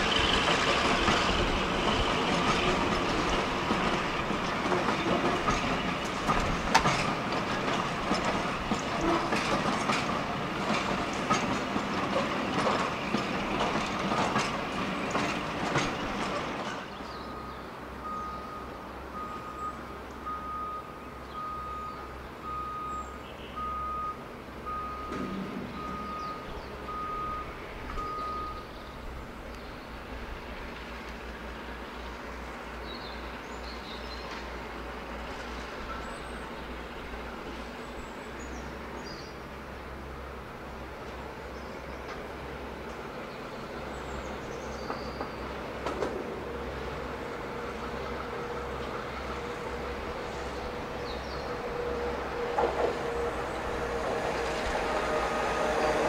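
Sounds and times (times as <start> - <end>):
train wheels clicking over rails: 0.0 - 17.2, 25.0 - 56.0.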